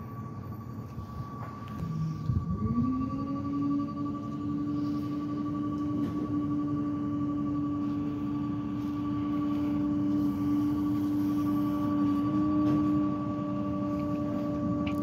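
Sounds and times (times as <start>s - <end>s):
garbage truck engine drone: 0.0s - 15.0s
high whine: 0.0s - 15.0s.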